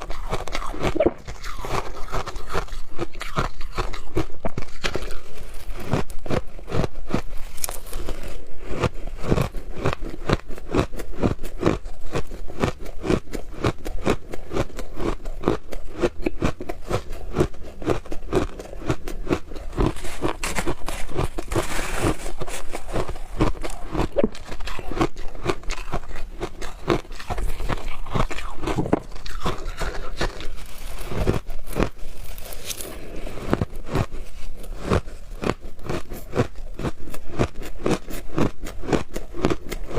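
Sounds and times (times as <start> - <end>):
crunching shaved ice: 0.0 - 39.9.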